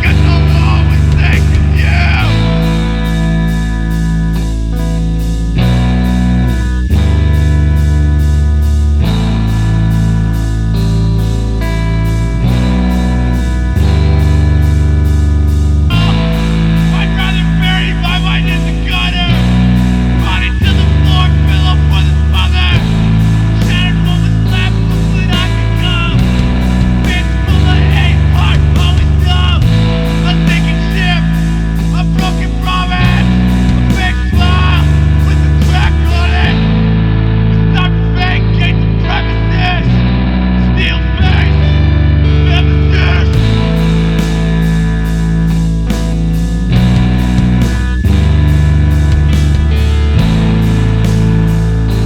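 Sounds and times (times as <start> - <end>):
rock music with guitar: 0.0 - 52.0
sustained bass notes: 0.0 - 52.0.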